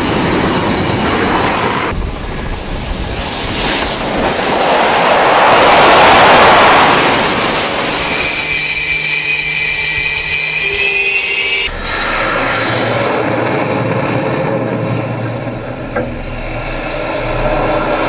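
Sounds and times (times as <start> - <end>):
high turbine whine: 0.0 - 18.0
jet engine roar: 0.0 - 18.0.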